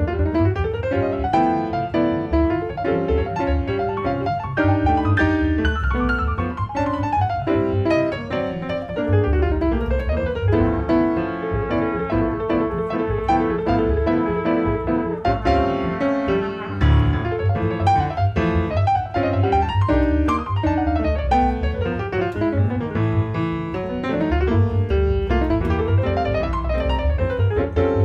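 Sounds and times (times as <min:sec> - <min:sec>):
jazz piano: 0:00.0 - 0:28.0
plucked double bass: 0:00.0 - 0:28.0.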